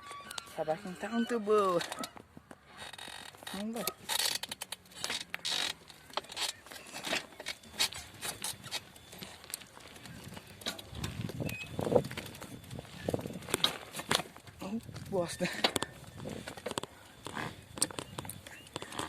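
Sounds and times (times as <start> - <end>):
bicycle parts rattling: 0.0 - 19.0.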